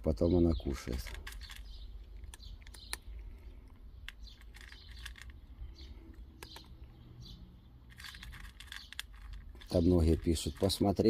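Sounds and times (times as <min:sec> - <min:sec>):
cat crunching dry kibble: 0:00.8 - 0:06.8, 0:07.8 - 0:11.0.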